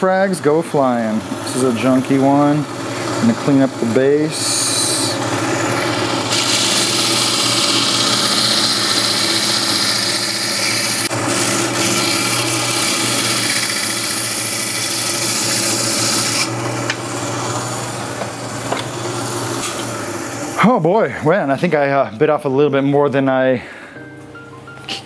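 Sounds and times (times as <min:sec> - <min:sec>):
motor humming: 0:00.0 - 0:20.6
band saw grinding coral: 0:00.0 - 0:21.9.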